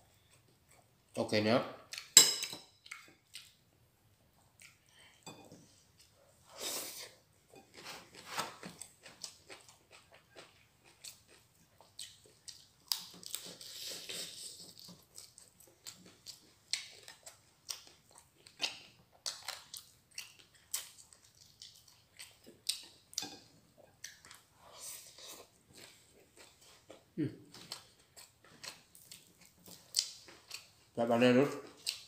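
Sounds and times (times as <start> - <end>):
person chewing food: 2.8 - 3.6, 4.3 - 31.0, 31.6 - 32.0.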